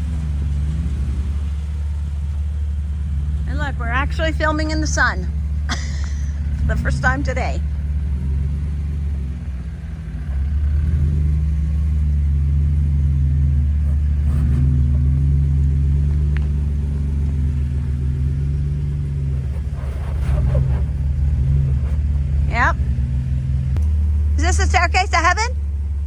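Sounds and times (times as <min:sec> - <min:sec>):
engine rumbling at low revs: 0:00.0 - 0:26.0.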